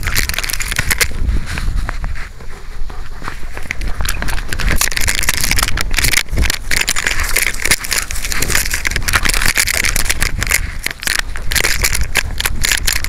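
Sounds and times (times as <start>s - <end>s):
camera harness rattling and knocking: 0.0s - 1.6s, 3.5s - 13.0s
wind rumble on microphone: 0.0s - 13.0s.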